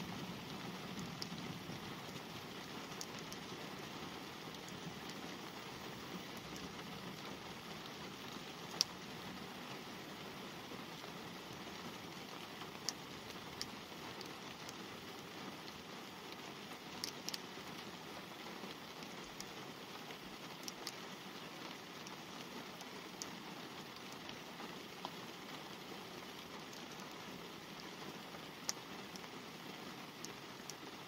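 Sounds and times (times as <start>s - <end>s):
rain hissing on car glass: 0.0s - 31.0s
raindrop ticks: 0.0s - 31.0s.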